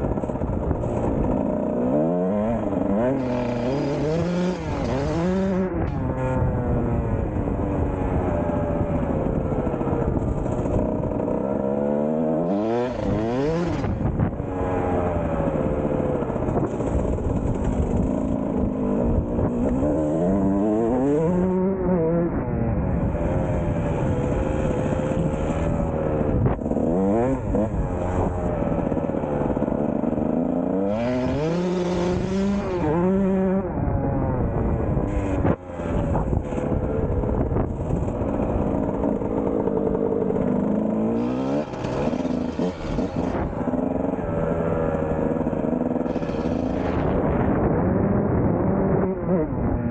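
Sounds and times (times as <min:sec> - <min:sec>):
two-stroke engine revving: 0:00.0 - 0:49.9.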